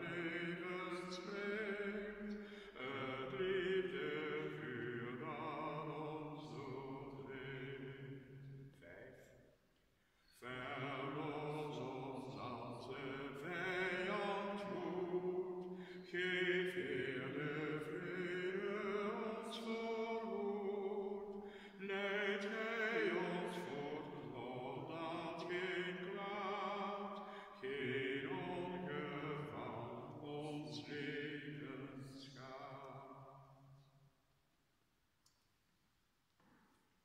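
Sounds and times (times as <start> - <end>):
man singing a chant: 0.0 - 8.2, 10.4 - 33.2.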